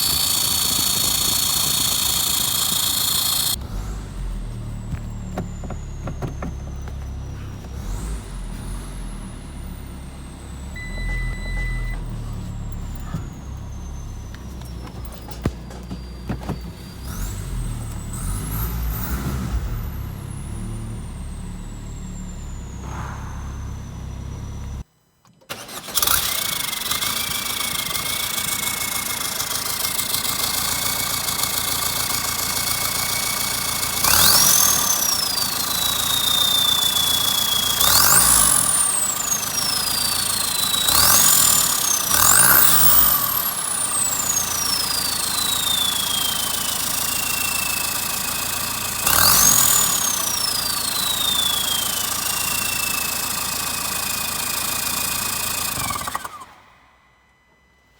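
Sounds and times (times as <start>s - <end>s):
diesel engine rumble: 0.0s - 24.9s, 25.5s - 56.6s
turbocharger whistling: 0.0s - 24.9s, 25.5s - 57.9s.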